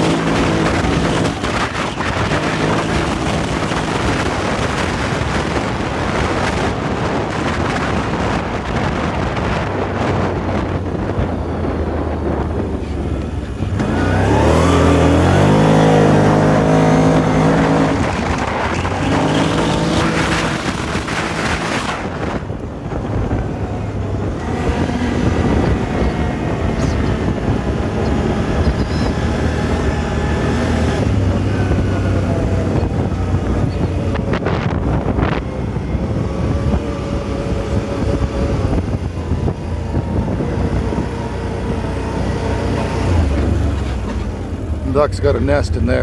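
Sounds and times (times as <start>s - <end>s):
motorbike engine revving: 0.0s - 46.0s
wind buffeting microphone: 0.0s - 46.0s.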